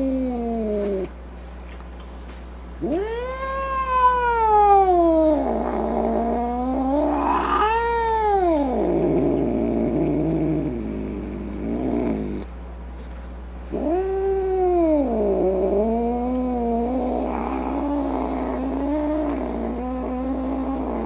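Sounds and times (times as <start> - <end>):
cat yowling and growling: 0.0 - 1.1, 2.8 - 12.4, 13.7 - 21.0.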